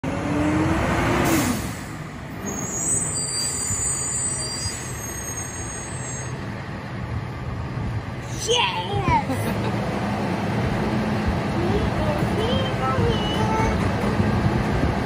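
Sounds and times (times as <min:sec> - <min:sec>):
garbage truck diesel engine: 0:00.0 - 0:15.0.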